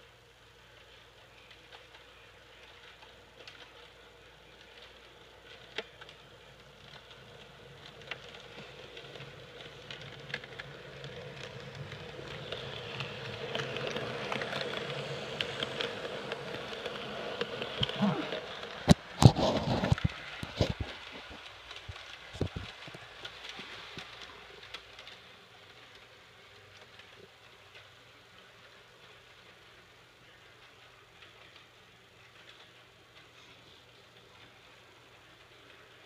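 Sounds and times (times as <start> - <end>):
model train rumbling on track: 0.0 - 36.0.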